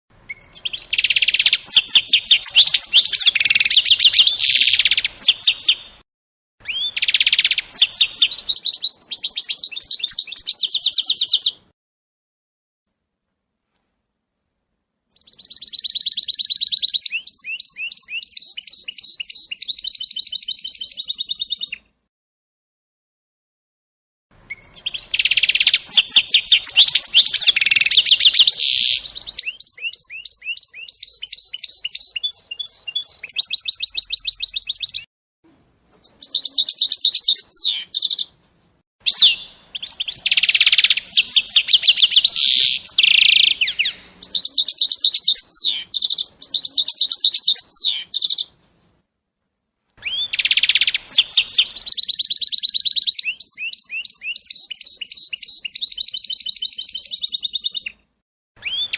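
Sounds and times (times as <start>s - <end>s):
songbird trilling and chirping: 0.3s - 6.0s, 6.6s - 11.6s, 15.1s - 21.8s, 24.5s - 35.1s, 35.9s - 38.3s, 39.1s - 48.5s, 50.0s - 58.0s, 58.6s - 58.9s.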